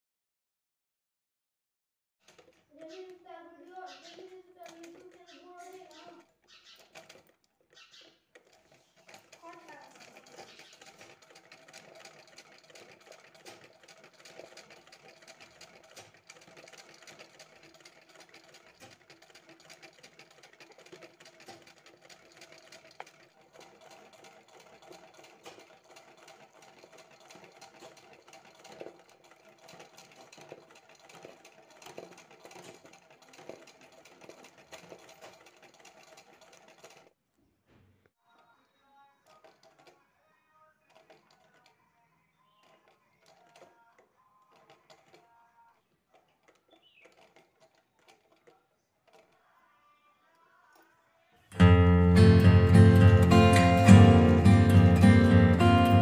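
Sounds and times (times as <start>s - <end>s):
sewing machine stitching: 2.2s - 37.2s, 39.0s - 56.0s.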